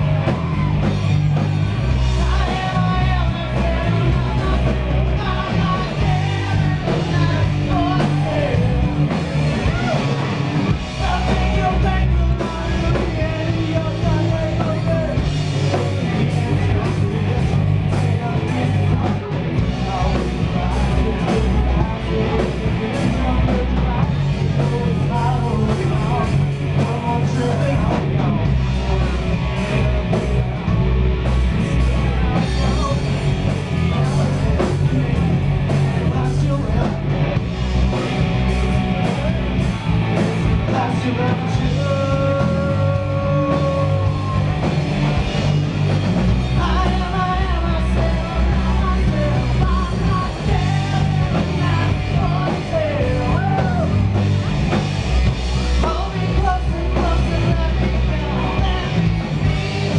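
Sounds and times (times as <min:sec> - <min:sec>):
person singing: 0:00.0 - 0:30.7, 0:31.5 - 0:45.4, 0:46.1 - 0:54.2, 0:55.5 - 0:59.9
live rock band playing: 0:00.0 - 0:59.9.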